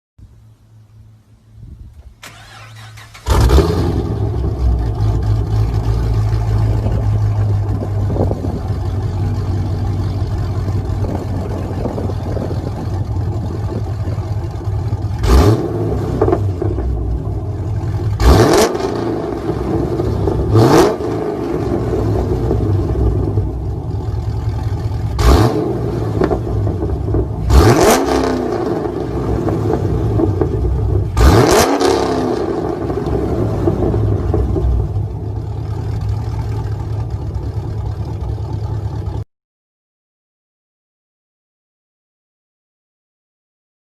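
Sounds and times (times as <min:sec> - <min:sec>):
car engine idle rumble: 0:00.2 - 0:31.4, 0:32.0 - 0:39.2
engine throttle blips: 0:00.3 - 0:39.2.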